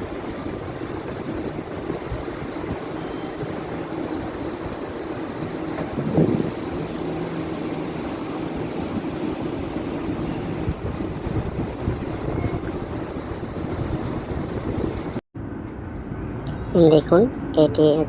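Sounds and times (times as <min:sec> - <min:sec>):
ship low rumbling: 0:00.0 - 0:18.0.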